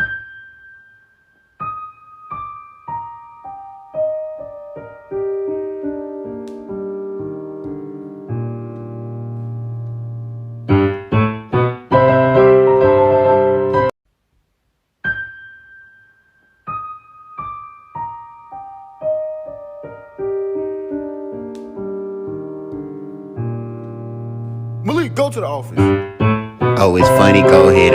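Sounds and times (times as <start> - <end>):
solo piano music: 0.0 - 14.0, 15.0 - 27.9.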